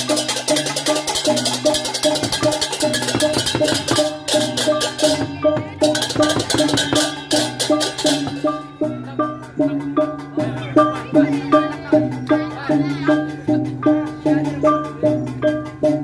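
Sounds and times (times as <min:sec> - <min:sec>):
hand cymbals clashing: 0:00.0 - 0:16.0.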